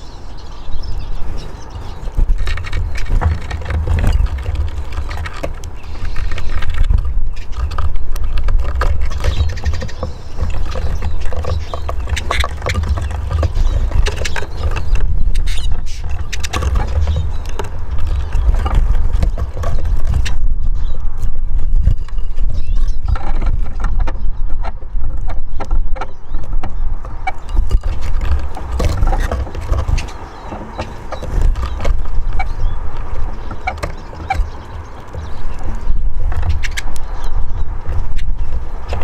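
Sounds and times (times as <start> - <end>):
birds tapping and pecking: 0.0 - 39.0
wind rumbling on microphone: 0.0 - 39.0.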